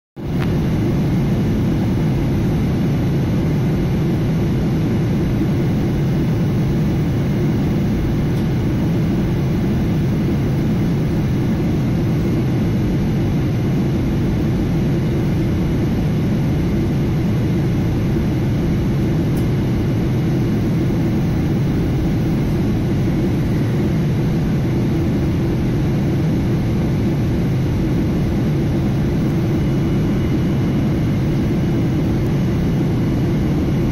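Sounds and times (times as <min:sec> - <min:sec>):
airliner cabin noise: 0:00.2 - 0:33.9.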